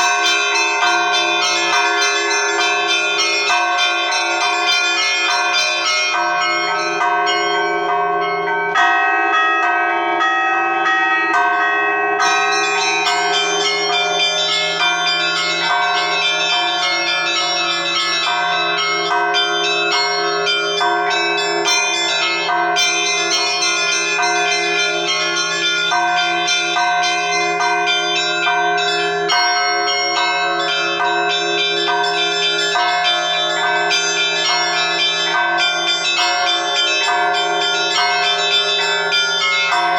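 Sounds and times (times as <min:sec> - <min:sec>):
large bell humming: 0:00.0 - 0:39.9.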